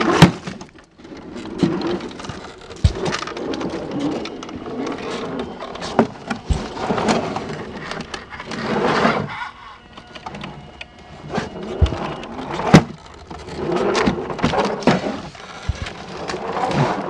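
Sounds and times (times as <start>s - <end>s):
rc car scraping on rock: 0.0s - 9.6s, 11.1s - 17.0s.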